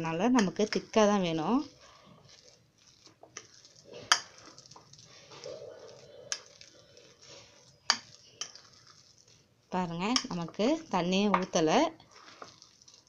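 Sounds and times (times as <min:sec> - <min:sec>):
spoon stirring thick batter: 0:00.0 - 0:13.0.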